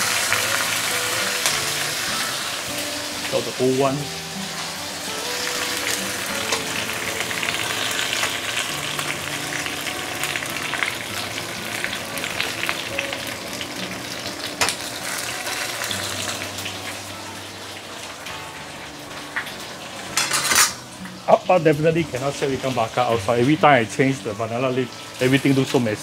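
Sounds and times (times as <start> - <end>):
fish sizzling in oil: 0.0 - 26.0.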